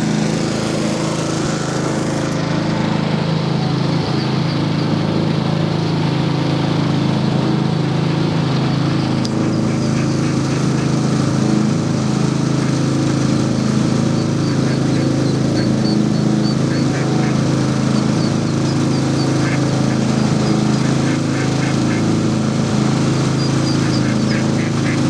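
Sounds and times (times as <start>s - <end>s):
small engine running: 0.0s - 25.0s
ducklings peeping: 2.6s - 5.4s, 7.7s - 25.0s.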